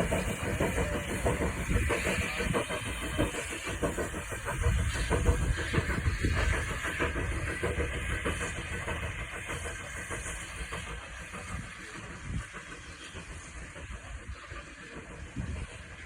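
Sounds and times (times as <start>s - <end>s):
train rumbling and clattering past: 0.0s - 16.0s.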